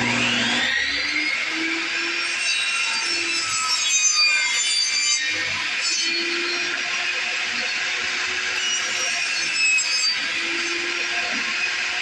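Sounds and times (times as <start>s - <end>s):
electric saw cutting wood: 0.0s - 12.0s.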